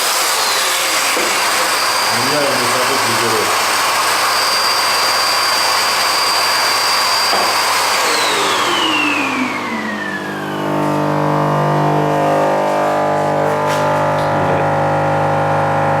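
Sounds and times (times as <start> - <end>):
power tool motor spinning down: 0.0 - 16.0.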